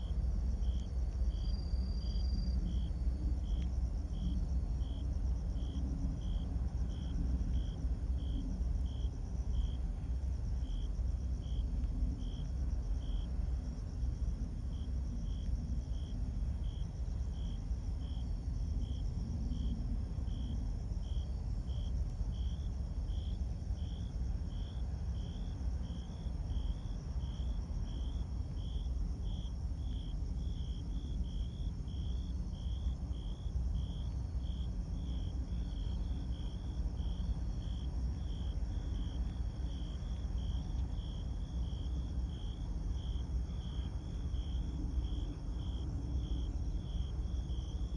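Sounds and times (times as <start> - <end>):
cricket chirping: 0.0 - 47.9
steady low rumble: 0.0 - 47.9.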